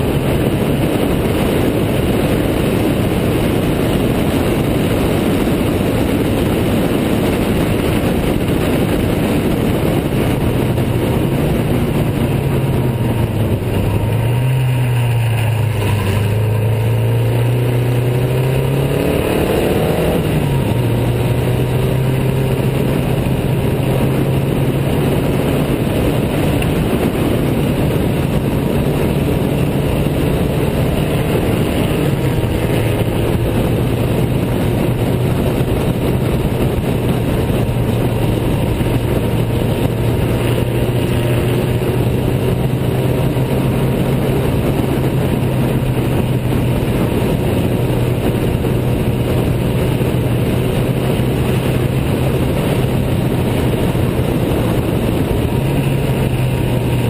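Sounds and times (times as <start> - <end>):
car engine running hard: 0.0 - 57.0
wind rushing: 0.0 - 57.0.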